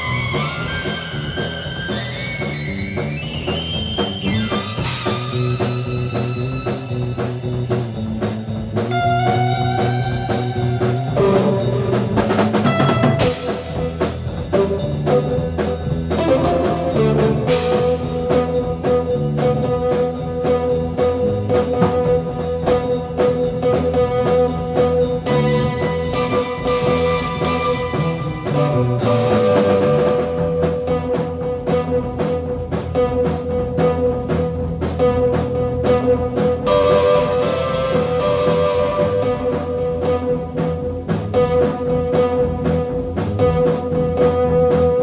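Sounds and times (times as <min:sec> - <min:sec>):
drum kit steady beat: 0:00.0 - 0:45.0
electric guitar bending notes: 0:00.0 - 0:45.0.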